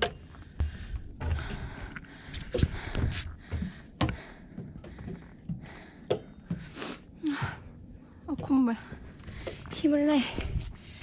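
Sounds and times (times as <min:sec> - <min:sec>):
footsteps on wooden stairs: 0:00.0 - 0:07.7, 0:08.3 - 0:10.7.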